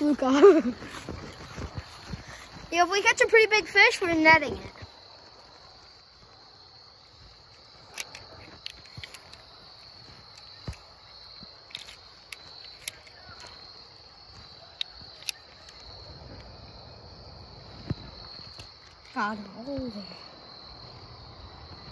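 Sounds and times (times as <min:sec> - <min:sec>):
high-pitched insect chorus: 0:00.0 - 0:21.9.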